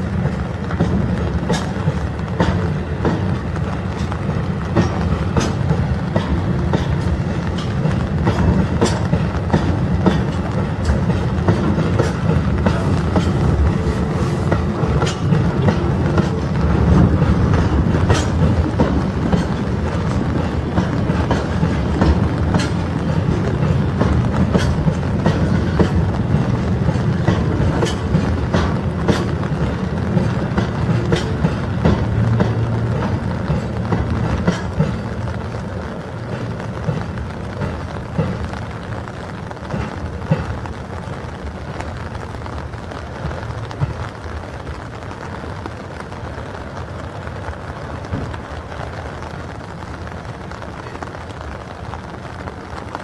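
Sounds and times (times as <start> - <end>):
freight train rumbling past: 0.0 - 53.0
wheels clicking over rail joints: 0.0 - 53.0.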